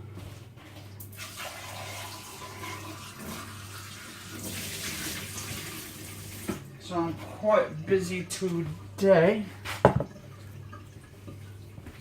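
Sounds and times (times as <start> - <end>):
tap water running into sink: 0.8 - 12.0.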